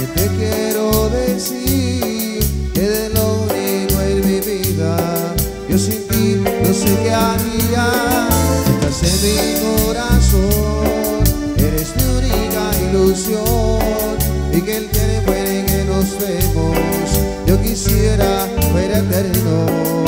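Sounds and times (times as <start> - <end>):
live latin band music: 0.0 - 20.0
person singing: 0.0 - 20.0.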